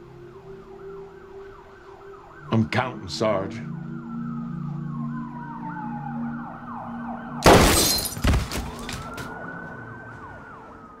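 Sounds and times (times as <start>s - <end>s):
police sirens wailing: 0.0s - 11.0s.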